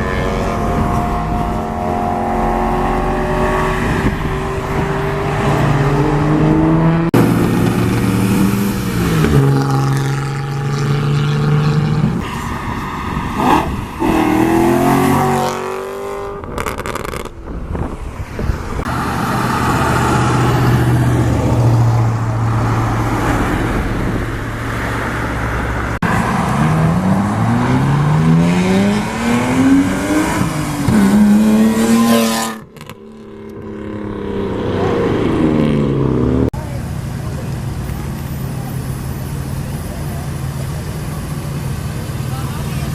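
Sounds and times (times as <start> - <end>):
sports car engines revving: 0.0 - 42.9.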